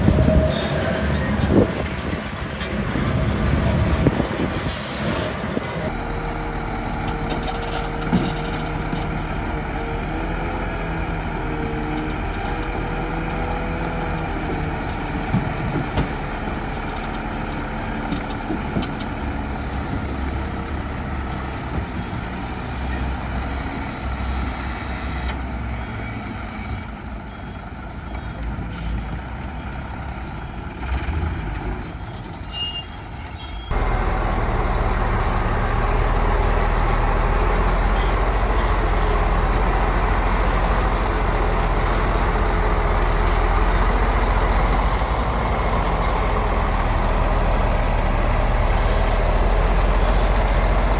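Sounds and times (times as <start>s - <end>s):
heavy diesel engines running: 0.0s - 50.9s.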